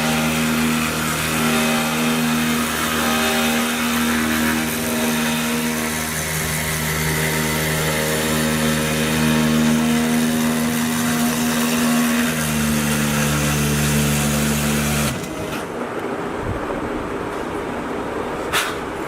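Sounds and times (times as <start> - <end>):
milling machine humming: 0.0 - 16.0.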